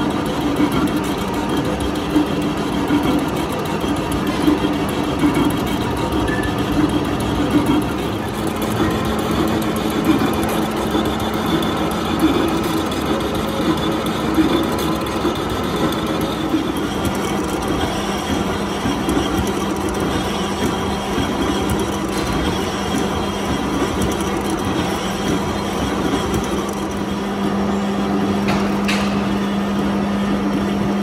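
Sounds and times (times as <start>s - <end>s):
metal cutting noise: 0.0s - 29.7s
lathe machine hum: 0.0s - 31.0s.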